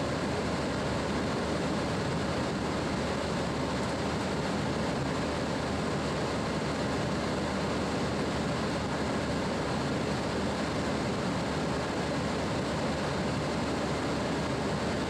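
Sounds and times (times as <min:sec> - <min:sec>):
airplane cockpit engine idle noise: 0:00.0 - 0:15.0.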